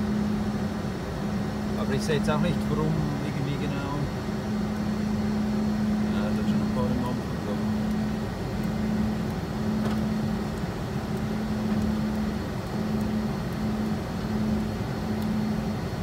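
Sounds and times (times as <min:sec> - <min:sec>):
jet engine noise: 0:00.0 - 0:16.0
low hum: 0:00.0 - 0:16.0.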